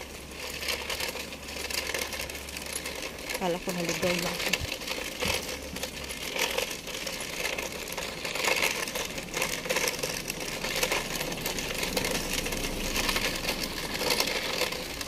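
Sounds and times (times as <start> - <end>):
crackling rustle: 0.0 - 15.0.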